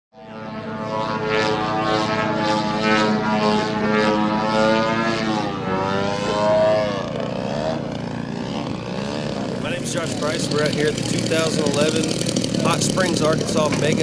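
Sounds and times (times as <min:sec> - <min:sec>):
model airplane propeller engine: 0:00.2 - 0:14.0.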